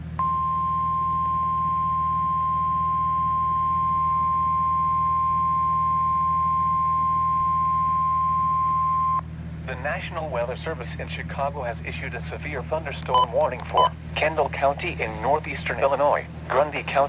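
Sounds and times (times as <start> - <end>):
low hum: 0.0 - 14.2.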